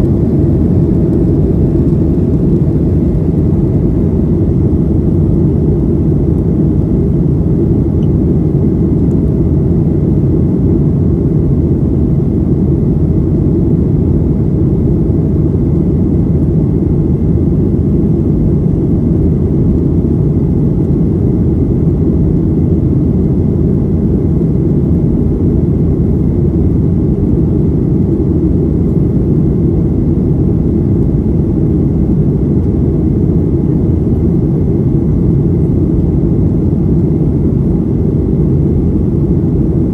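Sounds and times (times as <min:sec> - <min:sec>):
faint steady whine: 0:00.0 - 0:39.9
jet engine roar in cabin: 0:00.0 - 0:39.9.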